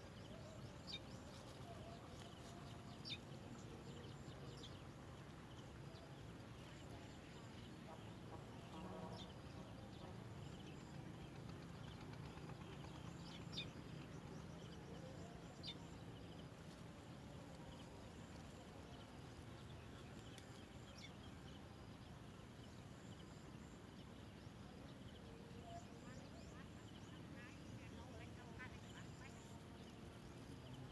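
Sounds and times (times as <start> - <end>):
faint outdoor background noise: 0.0 - 30.9.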